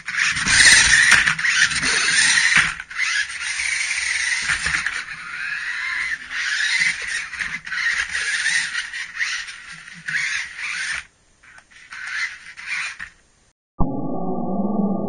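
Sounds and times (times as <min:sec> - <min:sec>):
toy vehicle motors whirring: 0:00.0 - 0:13.2.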